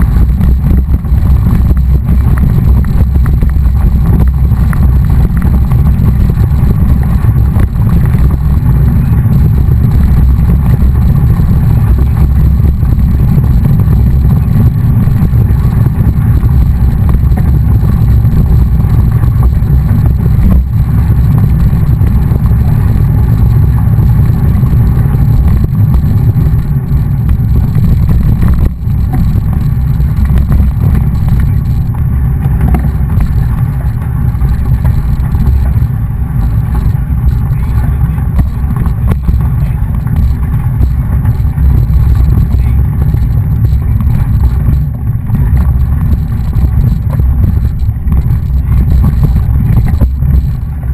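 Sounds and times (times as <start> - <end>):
bike road noise: 0.0 - 50.9
wind buffeting microphone: 0.0 - 50.9.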